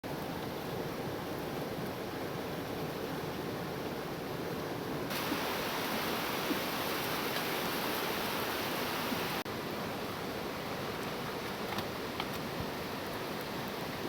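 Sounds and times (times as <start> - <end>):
stream water rushing: 0.1 - 14.0.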